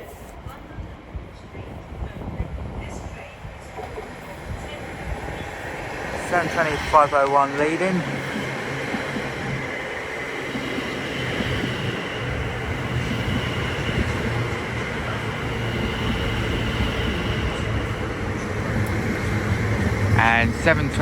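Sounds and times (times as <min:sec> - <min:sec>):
train wheels rumbling on rails: 0:00.0 - 0:21.0
train high whining tones: 0:02.9 - 0:21.0.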